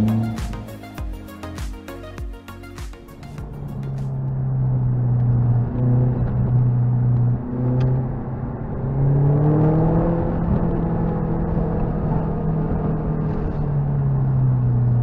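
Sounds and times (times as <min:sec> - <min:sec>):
car engine revving: 0:00.0 - 0:01.0, 0:03.2 - 0:15.0.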